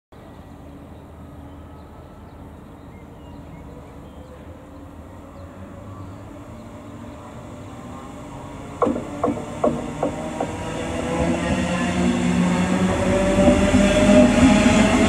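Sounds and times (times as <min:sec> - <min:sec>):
train approaching rumble: 0:00.2 - 0:15.0.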